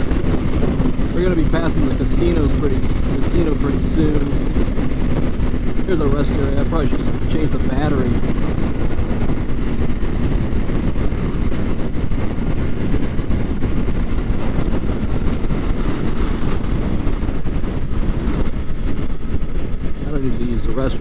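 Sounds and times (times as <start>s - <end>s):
motorcycle road rumble: 0.0s - 21.0s
wind: 0.0s - 21.0s.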